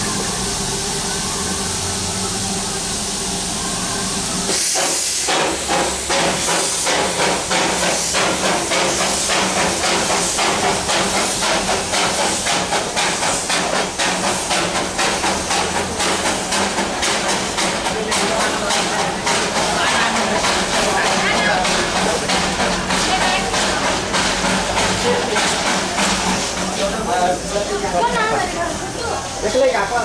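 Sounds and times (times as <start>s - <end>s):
steam hiss: 0.0s - 30.0s
steam locomotive exhaust chuffs: 0.0s - 30.0s.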